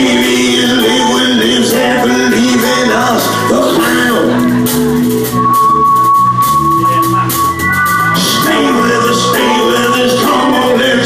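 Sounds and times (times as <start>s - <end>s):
person singing: 0.0s - 5.0s, 6.8s - 11.0s
live soul band playing: 0.0s - 11.0s.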